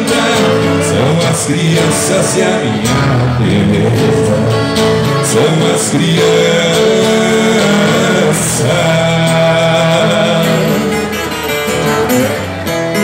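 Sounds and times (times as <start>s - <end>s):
man singing: 0.0s - 12.5s
acoustic guitars: 0.0s - 13.0s.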